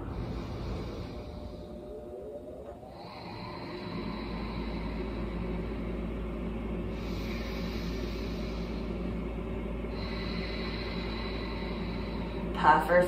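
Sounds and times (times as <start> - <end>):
low humming drone with rumble: 0.0 - 13.0.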